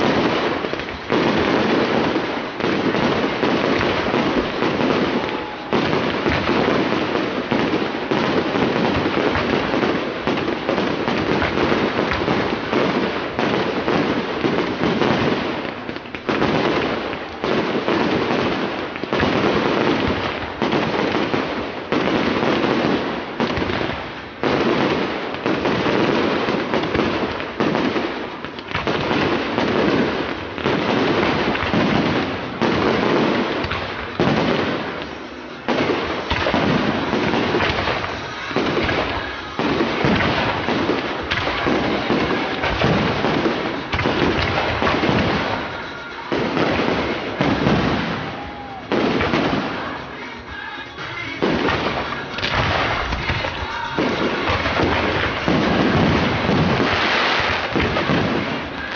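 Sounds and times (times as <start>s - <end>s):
fireworks bangs and crackle: 0.0s - 58.9s.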